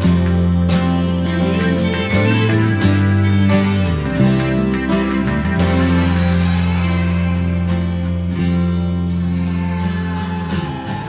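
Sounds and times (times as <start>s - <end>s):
held bass notes: 0.0s - 11.0s
plucked guitar music: 0.0s - 11.0s.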